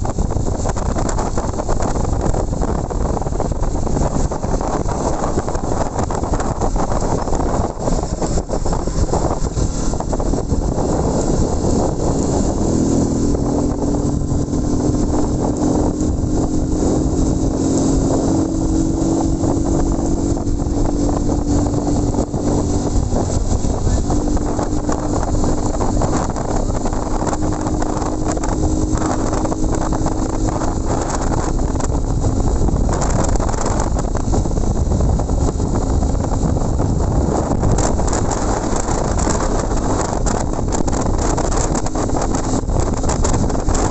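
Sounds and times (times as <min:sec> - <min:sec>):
motorcycle engine droning: 0:00.0 - 0:43.9
wind rushing over microphone: 0:00.0 - 0:43.9.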